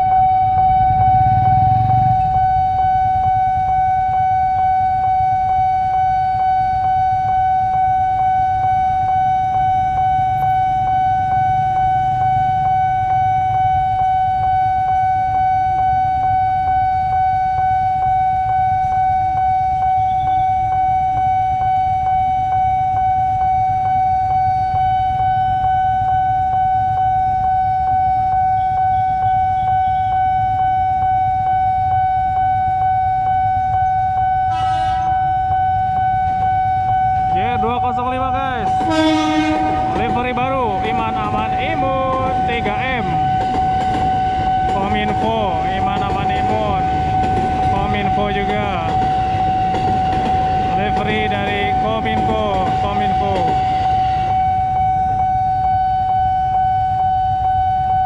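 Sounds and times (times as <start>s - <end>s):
level crossing alarm tone: 0.0s - 58.0s.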